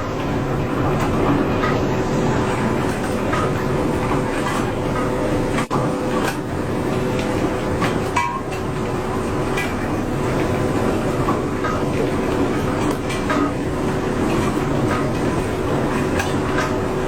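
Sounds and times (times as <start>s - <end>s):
machinery rumbling: 0.0s - 17.0s.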